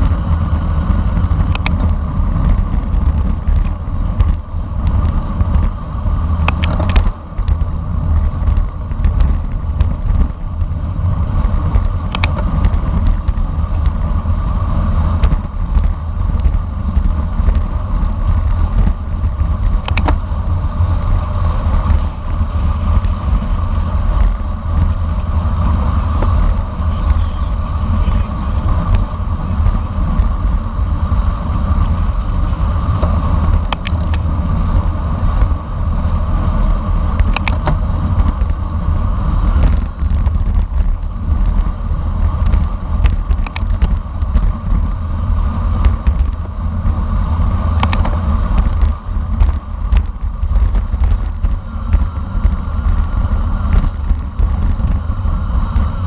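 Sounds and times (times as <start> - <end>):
bicycle road noise rumble: 0.0 - 56.0
wind buffeting microphone: 0.0 - 56.0.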